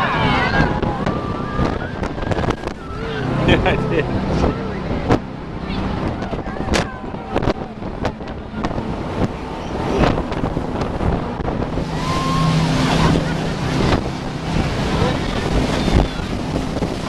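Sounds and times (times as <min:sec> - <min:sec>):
boat engine running: 0:00.0 - 0:17.0
water splashing: 0:00.0 - 0:17.0
wind on microphone: 0:00.0 - 0:17.0.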